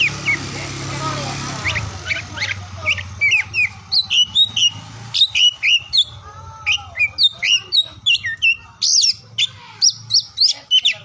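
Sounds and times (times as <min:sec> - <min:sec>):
bird singing whistled notes: 0:01.6 - 0:11.0.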